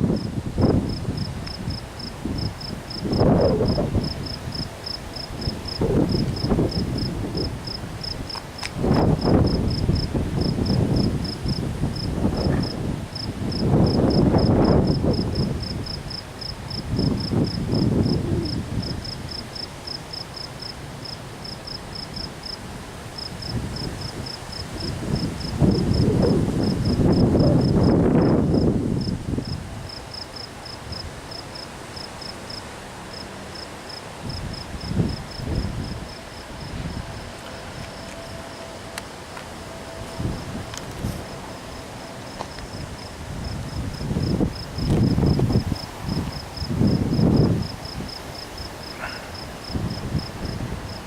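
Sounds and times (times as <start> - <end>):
wind rumble: 0.0 - 21.2, 21.9 - 31.3, 33.9 - 51.0
cricket chirping: 0.0 - 22.6, 23.2 - 38.7, 39.7 - 51.0.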